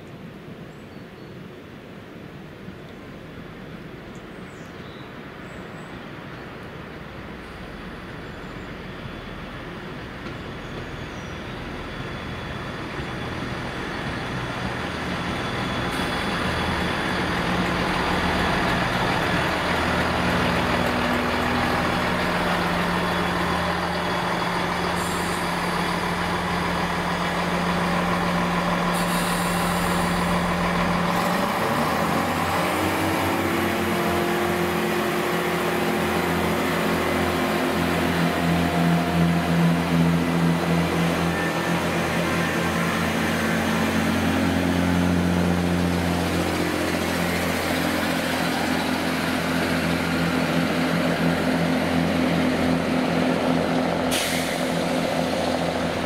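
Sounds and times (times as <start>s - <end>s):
diesel train engine drone: 1.4s - 56.0s
wheel and rail rumble: 1.7s - 56.0s.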